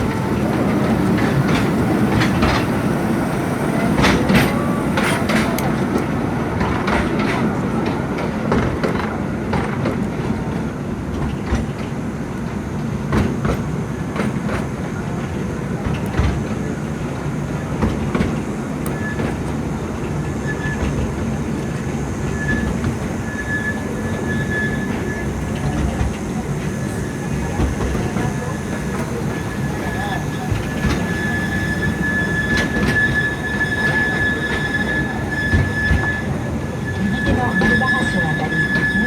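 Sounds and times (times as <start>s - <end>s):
faint high wheel squeal: 0.0s - 9.4s, 16.4s - 39.0s
train wheels rumbling on track: 0.0s - 39.0s.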